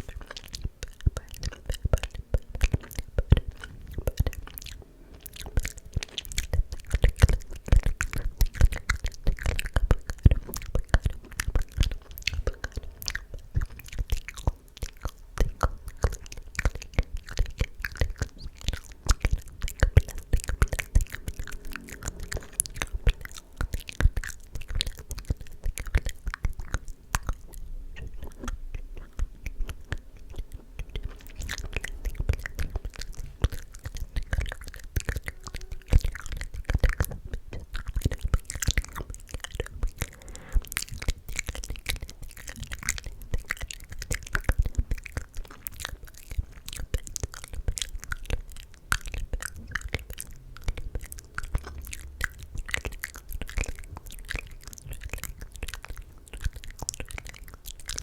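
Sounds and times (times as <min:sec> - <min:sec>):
wet mouth clicks and smacks: 0:00.0 - 0:58.0.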